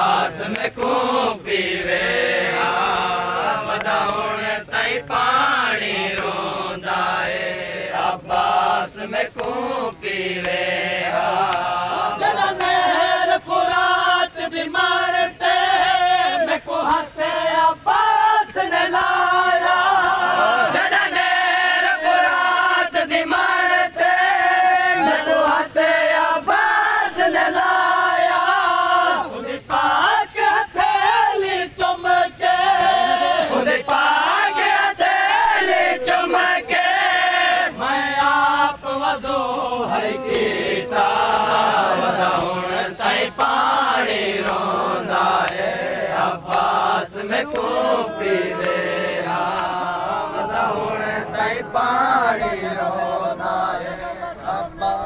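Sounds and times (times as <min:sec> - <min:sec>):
crowd of men chanting: 0:00.0 - 0:55.0.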